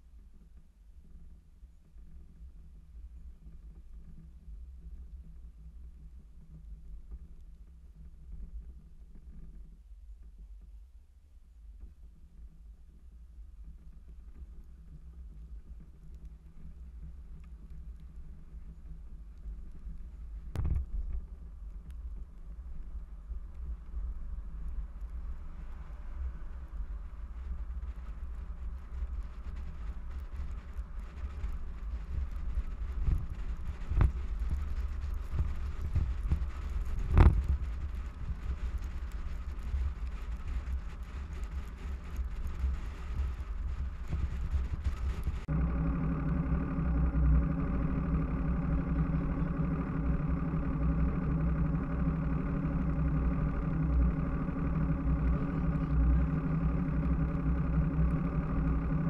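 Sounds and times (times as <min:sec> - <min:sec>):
wind and road noise rumble: 0:11.7 - 0:59.0.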